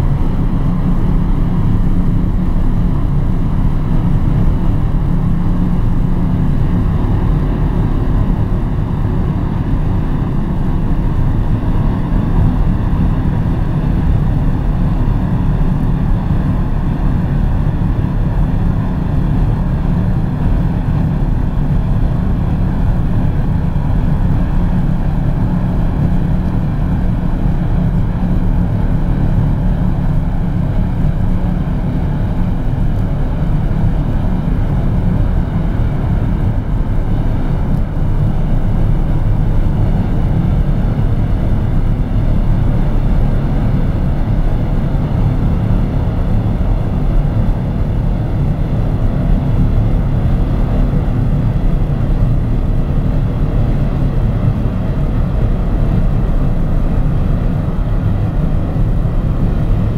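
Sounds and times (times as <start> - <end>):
diesel engine hum: 0.0 - 59.9
wind and tyre noise: 0.0 - 59.9.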